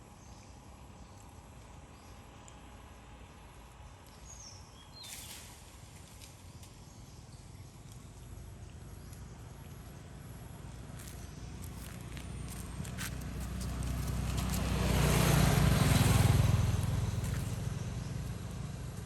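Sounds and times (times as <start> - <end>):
rustle: 0.2 - 19.0.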